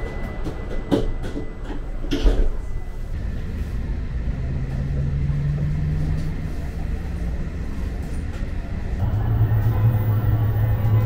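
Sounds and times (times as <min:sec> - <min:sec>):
train running hum and rumble: 0:00.0 - 0:11.0.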